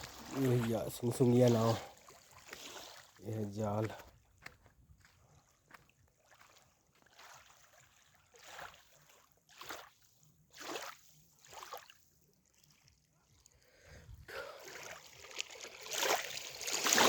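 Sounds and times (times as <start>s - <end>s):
oar swishing through water: 0.0s - 4.2s, 5.1s - 17.0s
low water noise: 0.0s - 17.0s.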